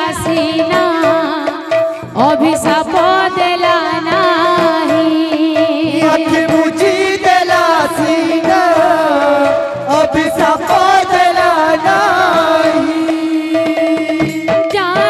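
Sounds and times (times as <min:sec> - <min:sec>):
woman singing into microphone: 0:00.0 - 0:09.5, 0:10.5 - 0:15.0
hand drums beaten quickly: 0:00.0 - 0:15.0.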